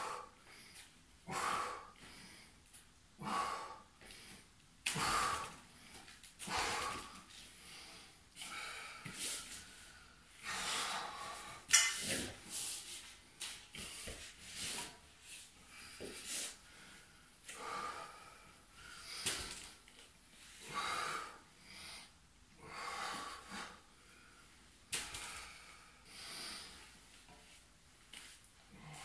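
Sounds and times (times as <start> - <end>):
man breathing hard: 0.0 - 11.7, 13.7 - 19.8, 20.5 - 27.0, 28.6 - 29.0.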